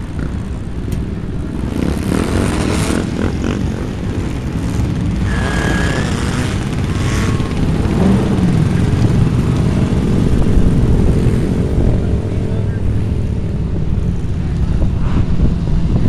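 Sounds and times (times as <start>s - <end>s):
quad engines rumbling: 0.0s - 16.0s.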